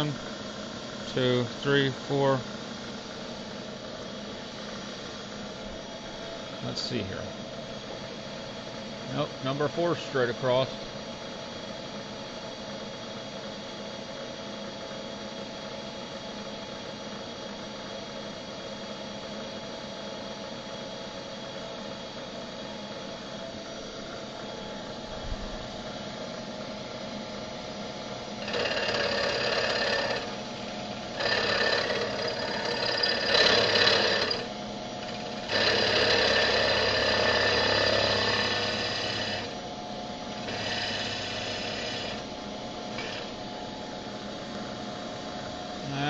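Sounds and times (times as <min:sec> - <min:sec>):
milling machine humming and whirring: 0:00.0 - 0:46.0.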